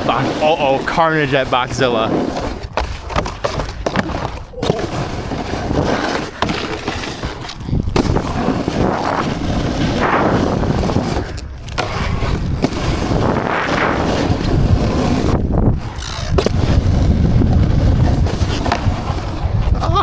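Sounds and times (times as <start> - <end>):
skis scraping on snow: 0.0 - 19.8
wind on microphone: 1.6 - 20.0.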